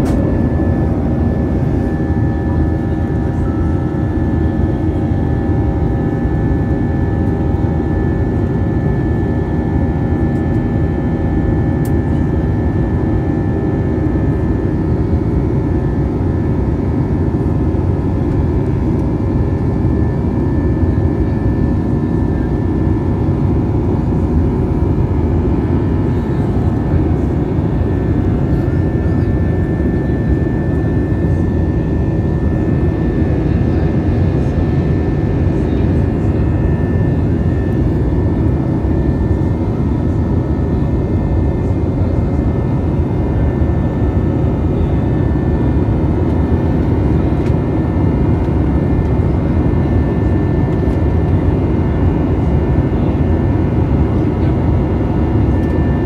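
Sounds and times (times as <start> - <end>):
aircraft cabin roar: 0.0 - 56.0.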